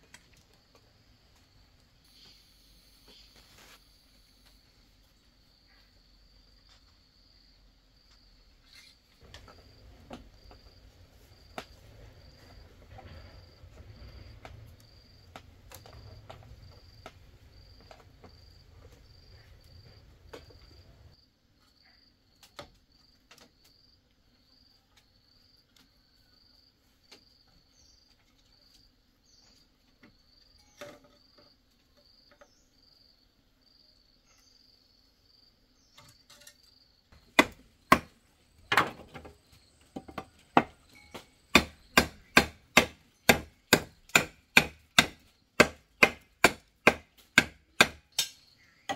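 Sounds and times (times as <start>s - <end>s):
insect chirping: 0.1s - 48.9s.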